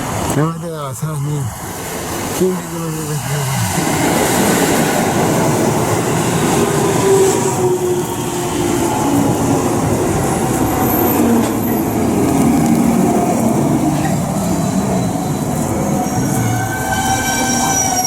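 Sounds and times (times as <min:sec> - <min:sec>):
electric train running past: 0:00.0 - 0:18.0.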